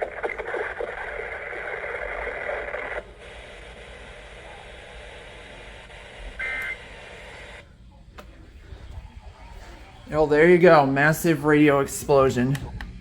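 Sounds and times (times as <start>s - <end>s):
radio static hiss: 0.0s - 12.8s.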